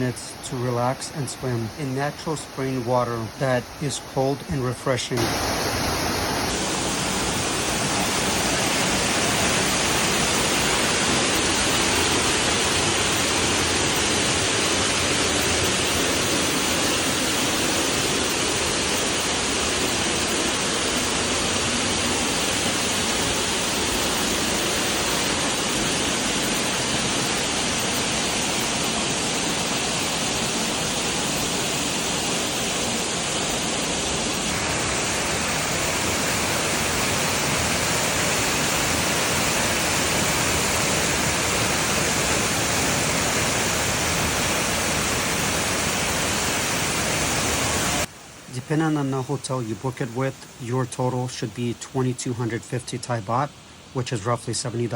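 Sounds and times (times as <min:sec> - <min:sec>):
running water rushing: 0:00.0 - 0:54.9.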